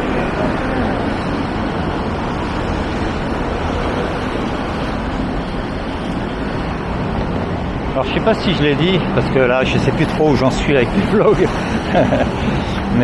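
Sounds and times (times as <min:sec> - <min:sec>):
traffic rush: 0:00.0 - 0:13.0.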